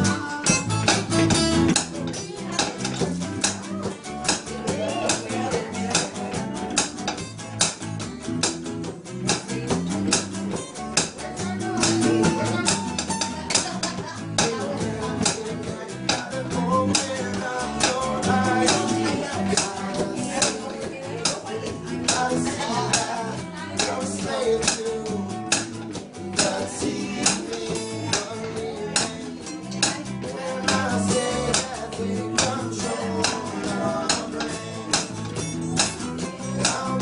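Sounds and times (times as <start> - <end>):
person singing: 0.0 - 1.2, 1.9 - 6.6, 9.3 - 37.0
strummed acoustic guitars: 0.0 - 37.0.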